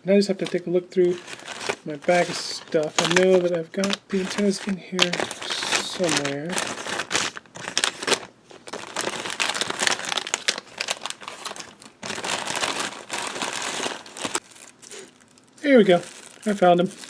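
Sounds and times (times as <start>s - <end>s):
hands rummaging through bag of parts: 0.4s - 15.2s, 15.9s - 17.0s.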